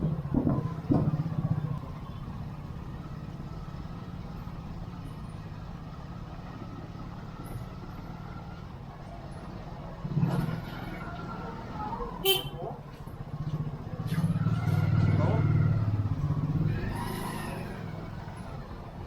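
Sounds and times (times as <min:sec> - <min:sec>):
motorbike engine: 0:00.0 - 0:18.7
street traffic: 0:00.0 - 0:19.0.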